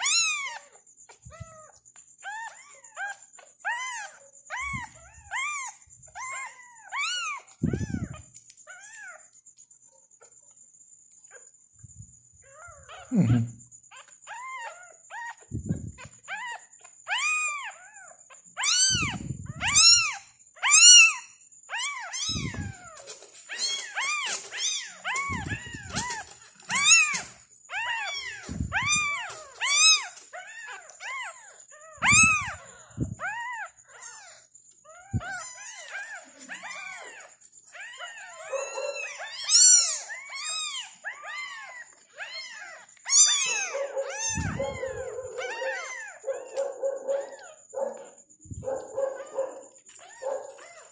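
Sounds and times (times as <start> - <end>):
kittens mewing: 3.7 - 9.1, 12.5 - 17.8, 18.6 - 50.9.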